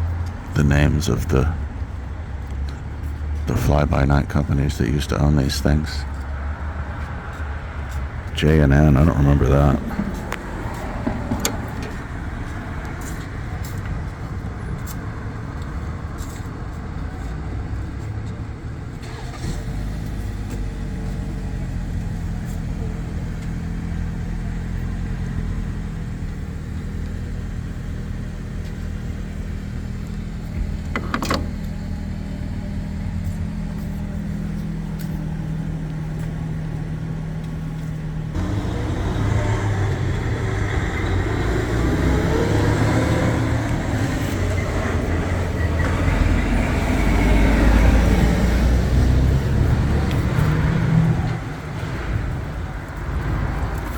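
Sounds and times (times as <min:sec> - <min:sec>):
street traffic: 0:00.0 - 0:53.9
vehicle engine running nearby: 0:00.0 - 0:53.9.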